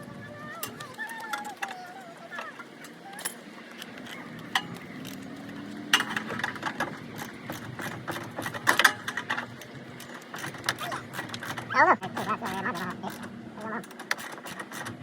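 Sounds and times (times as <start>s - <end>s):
metal clinks: 0.6s - 13.4s
ratchet clicking: 2.6s - 15.0s.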